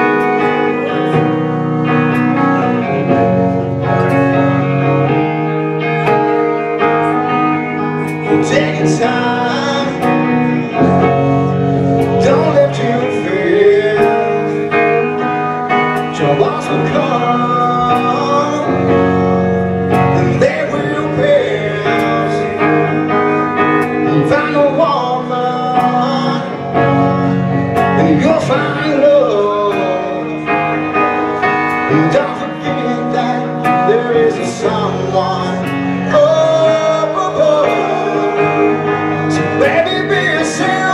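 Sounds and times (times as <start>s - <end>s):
electric guitar: 0.0s - 40.9s
person singing: 0.0s - 40.9s.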